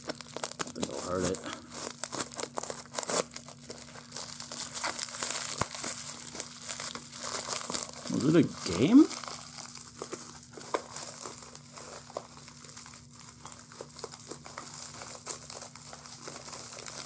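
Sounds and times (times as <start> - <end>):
bubble wrap crinkling: 0.0 - 17.0
faint steady hum: 0.0 - 17.0.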